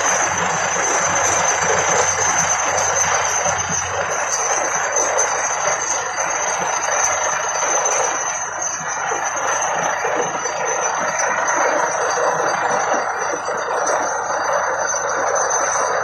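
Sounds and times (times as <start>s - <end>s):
drilling rig mechanical din: 0.0s - 16.0s
high-pitched whine: 0.0s - 16.0s.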